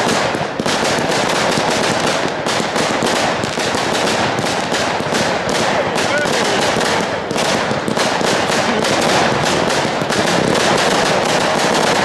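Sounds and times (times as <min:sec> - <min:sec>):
fireworks crackle: 0:00.0 - 0:12.0
fireworks launch thumps and bursts: 0:00.0 - 0:12.0.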